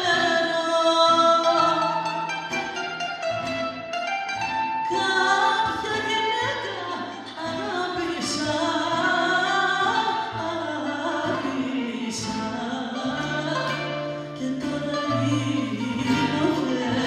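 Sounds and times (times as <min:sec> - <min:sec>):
woman singing into microphone: 0:00.0 - 0:02.0, 0:04.9 - 0:17.0
bouzouki: 0:00.0 - 0:17.0
guitar: 0:00.0 - 0:17.0.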